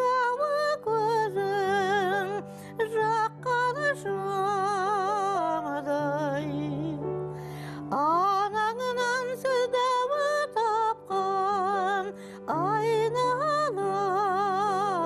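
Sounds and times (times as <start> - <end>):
woman singing with vibrato: 0.0 - 7.0, 7.9 - 15.0.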